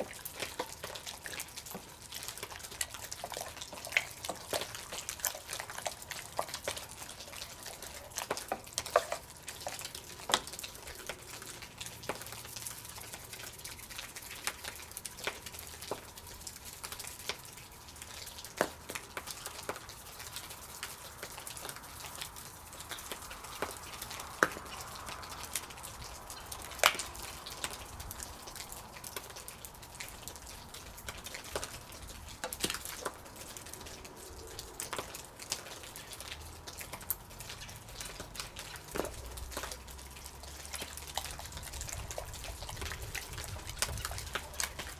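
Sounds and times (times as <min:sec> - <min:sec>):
campfire crackling: 0:00.0 - 0:44.9
faint steady hiss: 0:00.0 - 0:44.9.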